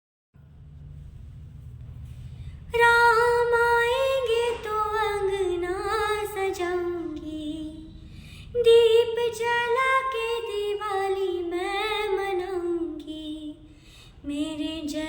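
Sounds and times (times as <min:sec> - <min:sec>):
low steady hum: 0:00.4 - 0:15.0
woman singing devotional song: 0:02.7 - 0:15.0.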